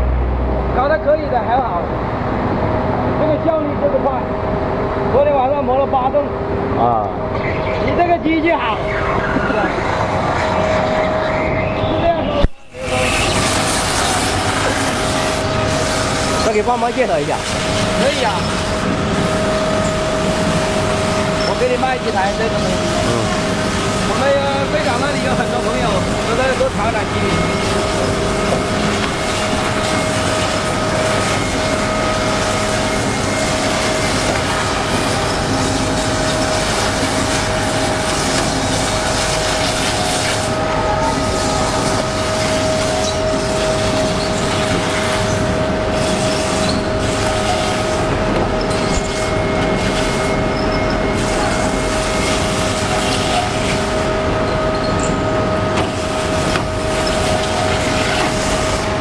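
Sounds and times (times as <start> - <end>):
grinding machine whining: 7.2 - 59.0.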